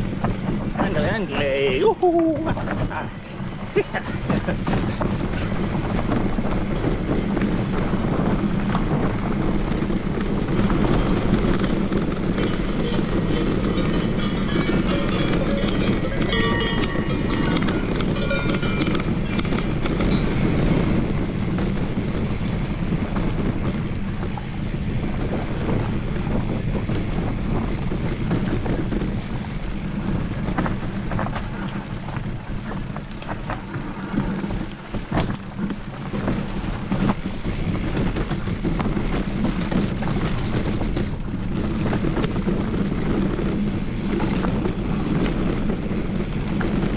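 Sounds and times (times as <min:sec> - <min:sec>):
bike rattling: 0:00.0 - 0:46.9
bike tyres rumbling: 0:00.0 - 0:46.9
wind over microphone: 0:00.0 - 0:46.9.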